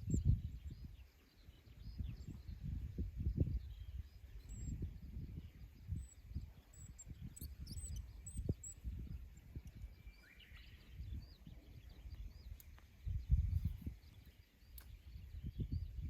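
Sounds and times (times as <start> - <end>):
small birds chirping: 0.0 - 16.0
wind rumbling on microphone: 0.0 - 16.0.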